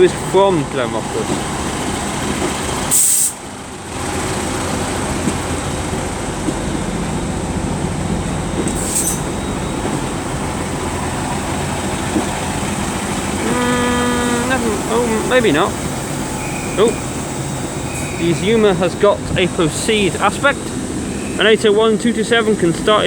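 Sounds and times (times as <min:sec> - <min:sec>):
train engines and wheels rumbling: 0:00.0 - 0:23.0.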